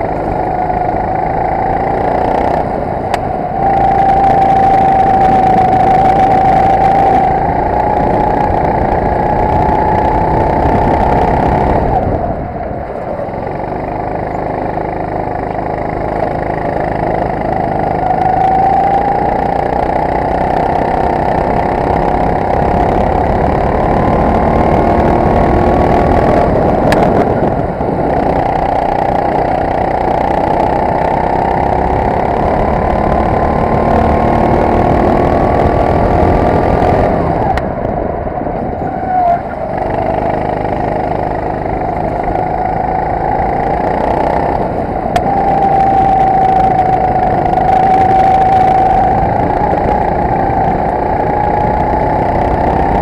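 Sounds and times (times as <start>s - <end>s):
go-kart engine running hard: 0.0s - 53.0s.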